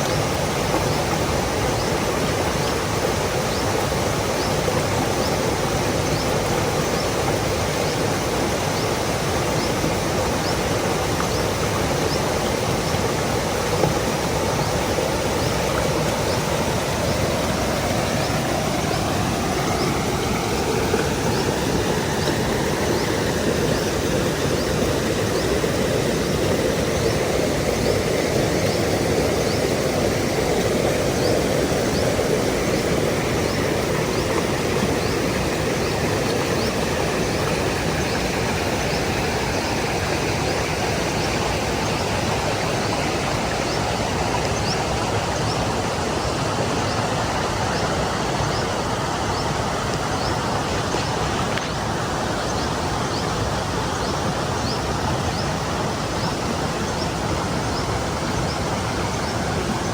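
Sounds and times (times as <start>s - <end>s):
stream water splashing over rocks: 0.0s - 59.9s.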